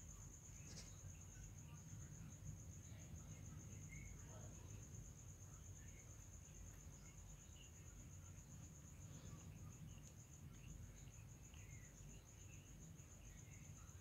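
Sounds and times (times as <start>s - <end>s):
high-pitched insect trill: 0.0s - 14.0s
low background hum: 0.0s - 14.0s.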